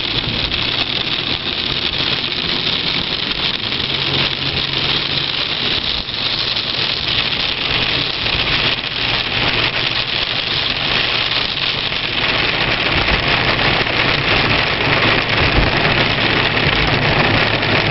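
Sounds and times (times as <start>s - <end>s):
low engine hum: 0.0s - 17.9s
rain on wet road hiss: 0.0s - 17.9s.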